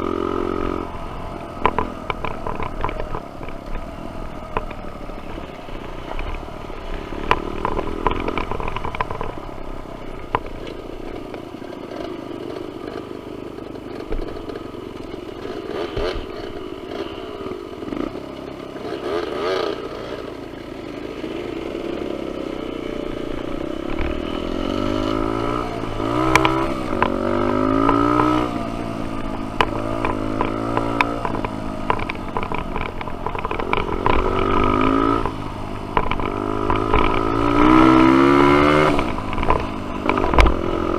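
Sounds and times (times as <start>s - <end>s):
bike rattles and knocks: 0.0s - 20.7s, 21.3s - 40.9s
dirt bike engine revving: 0.0s - 40.9s.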